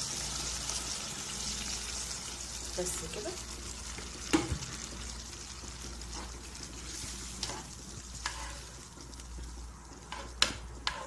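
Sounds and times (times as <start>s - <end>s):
sauce simmering and sizzling: 0.0s - 11.0s.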